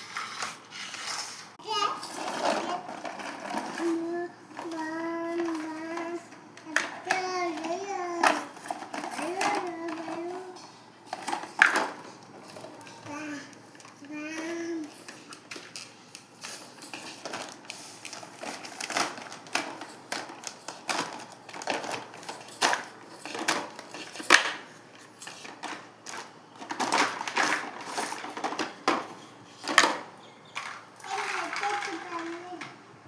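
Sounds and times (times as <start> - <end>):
toy parts clicking and clattering: 2.0 - 32.7.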